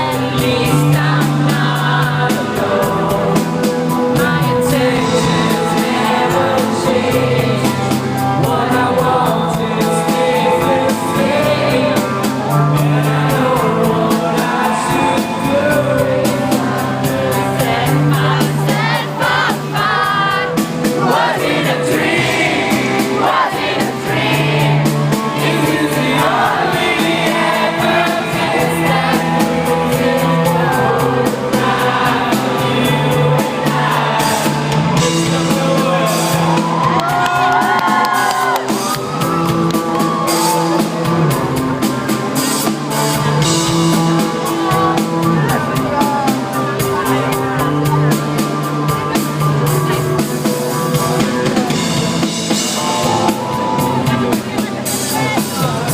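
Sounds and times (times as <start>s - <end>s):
person singing: 0.0s - 39.4s, 42.4s - 55.9s
held bass notes: 0.0s - 55.9s
live rock band playing: 0.0s - 55.9s.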